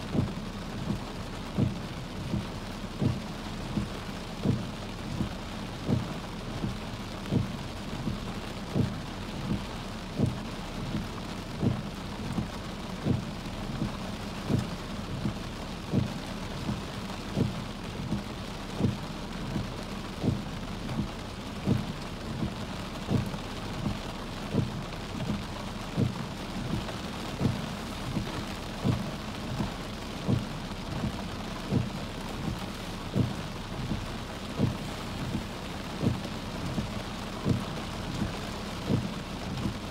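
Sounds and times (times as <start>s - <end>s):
heavy rain on car: 0.0s - 39.9s
windshield wipers running: 0.1s - 39.9s.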